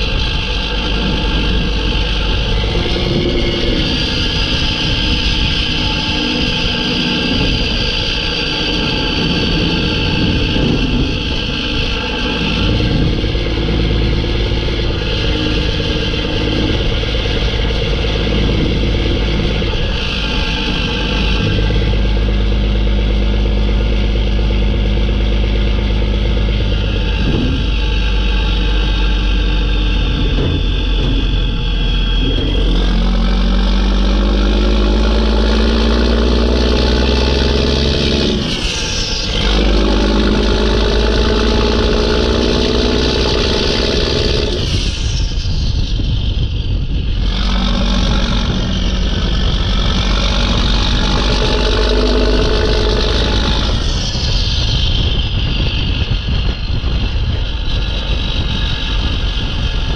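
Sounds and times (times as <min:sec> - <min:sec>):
turbo whistle winding down: 0:00.0 - 0:57.1
diesel truck accelerating through gears: 0:00.0 - 0:59.9.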